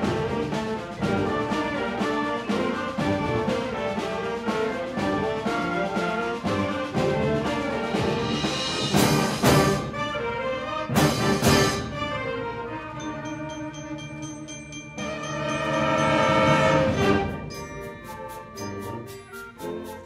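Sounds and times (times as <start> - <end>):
concert band playing: 0.0 - 20.0.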